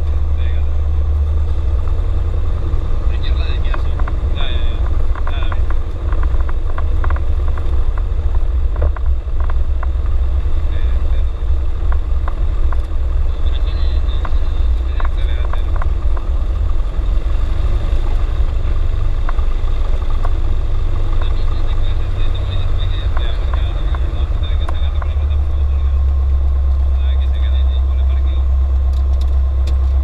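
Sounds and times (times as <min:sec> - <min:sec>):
plane engine droning: 0:00.0 - 0:30.0.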